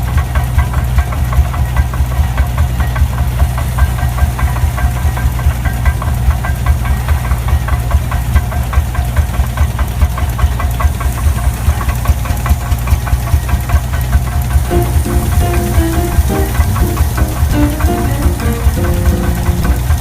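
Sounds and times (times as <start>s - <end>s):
old engine idling with knocking beat: 0.0s - 20.0s.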